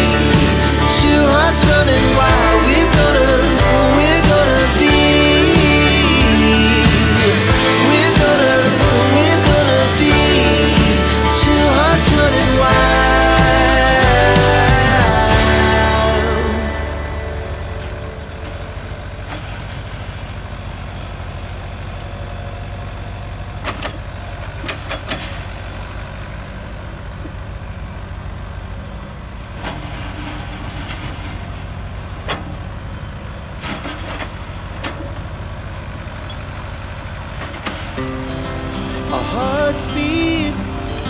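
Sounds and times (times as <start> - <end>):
diesel engine under load: 0.0 - 41.0.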